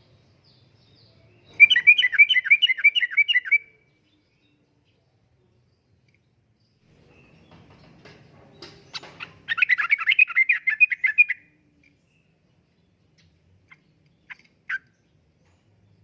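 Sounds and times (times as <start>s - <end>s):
bird chattering song: 0.0s - 16.0s
faint bird chirps: 0.0s - 16.0s.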